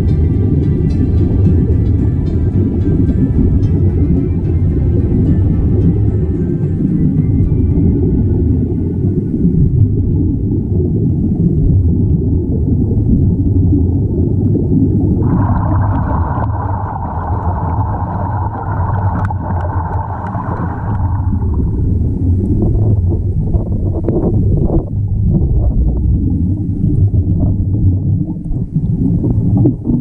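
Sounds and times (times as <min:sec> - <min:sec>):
air bubbles hissing: 0:00.0 - 0:30.0
underwater water rumble: 0:00.0 - 0:30.0.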